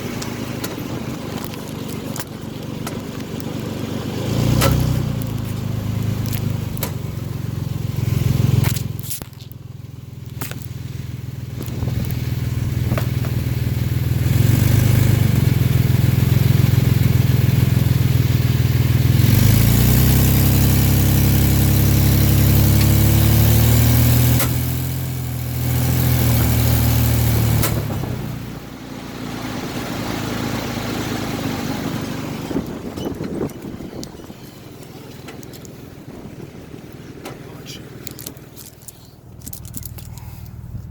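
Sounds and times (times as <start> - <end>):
car engine running: 0.0 - 40.9
road noise: 0.0 - 40.9.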